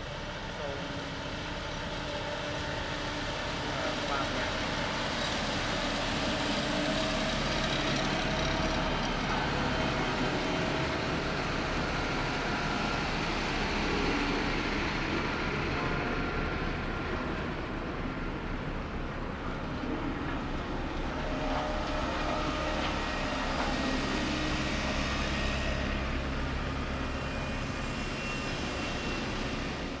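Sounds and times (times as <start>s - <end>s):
broad mechanical noise: 0.0s - 30.0s
diesel machinery engine drone: 0.0s - 30.0s.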